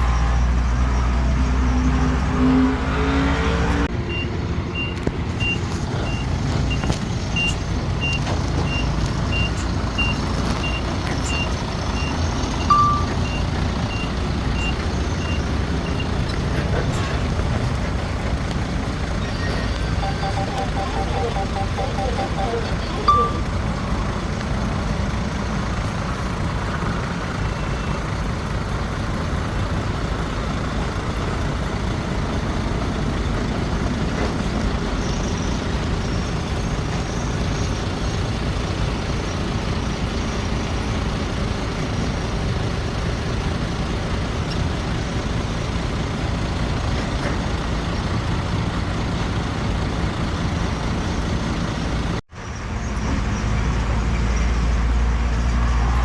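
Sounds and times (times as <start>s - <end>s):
diesel earthmoving machinery: 3.9s - 56.0s.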